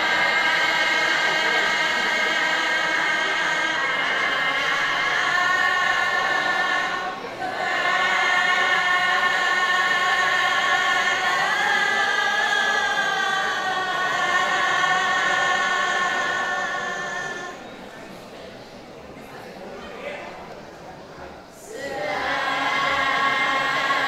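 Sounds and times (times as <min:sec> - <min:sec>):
unaccompanied voices chanting: 0:00.0 - 0:18.6, 0:21.5 - 0:24.0.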